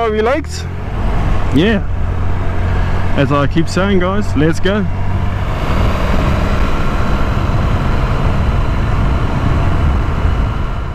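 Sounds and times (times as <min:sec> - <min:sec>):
motorcycle engine low rumble: 0:00.0 - 0:10.9.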